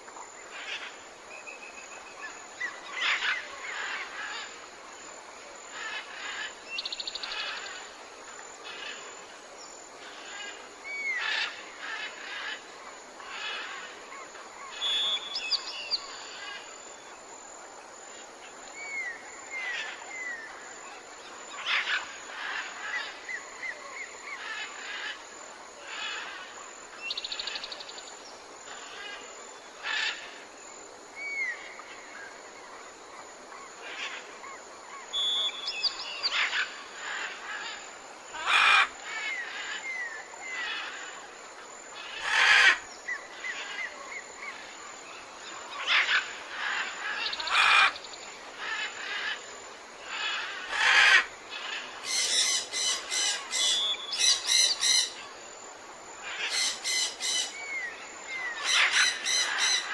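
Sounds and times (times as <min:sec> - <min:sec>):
steady background hiss: 0:00.0 - 0:59.9
wild birds chirping: 0:00.1 - 0:59.9.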